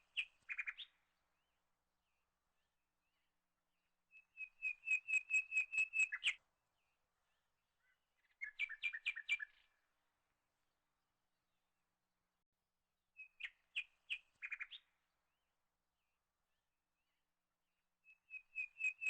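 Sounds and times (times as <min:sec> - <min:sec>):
songbird singing: 0:00.0 - 0:10.0, 0:13.1 - 0:15.4, 0:16.0 - 0:19.0.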